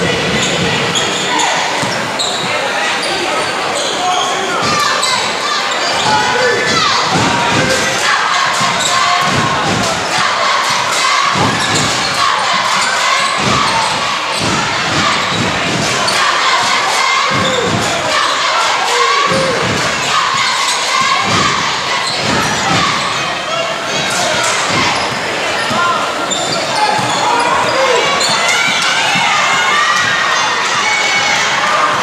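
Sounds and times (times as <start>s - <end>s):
crowd chatter and shouts: 0.0s - 32.0s.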